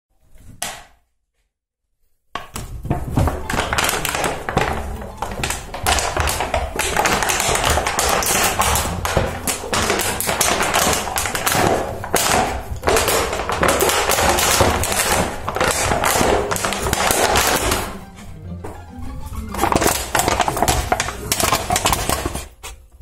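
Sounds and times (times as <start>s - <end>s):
plastic bottle crackling: 2.4s - 18.2s, 19.4s - 22.6s.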